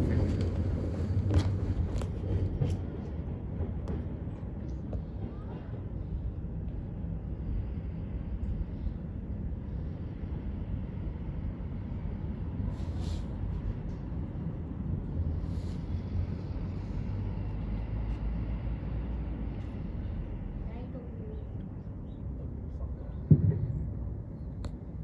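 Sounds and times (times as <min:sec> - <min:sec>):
freight train rumbling past: 0:00.0 - 0:21.8.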